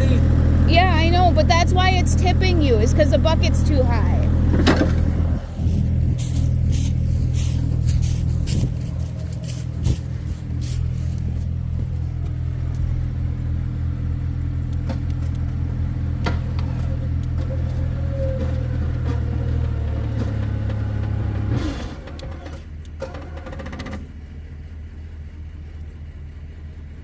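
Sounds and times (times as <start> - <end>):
engine knocks: 0.0 - 24.8
engine running under load: 0.0 - 27.0.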